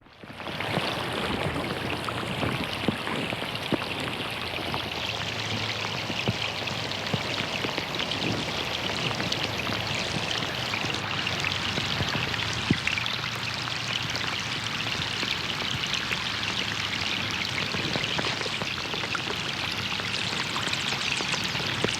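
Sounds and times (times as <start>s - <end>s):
rain falling on a pond: 0.0s - 21.9s
running water: 0.0s - 21.9s.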